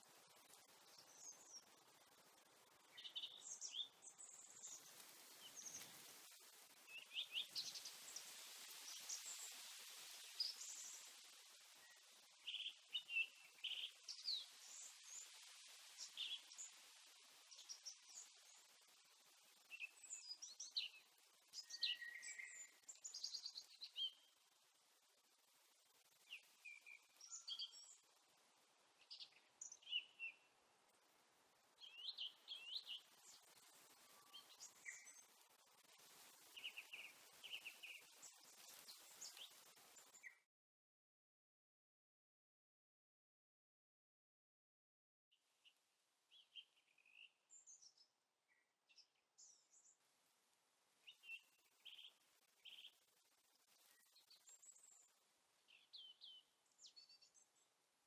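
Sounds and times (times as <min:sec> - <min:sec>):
small birds chirping: 0:00.0 - 0:24.6, 0:25.4 - 0:31.1, 0:31.7 - 0:40.4, 0:45.6 - 0:50.0, 0:51.0 - 0:57.8.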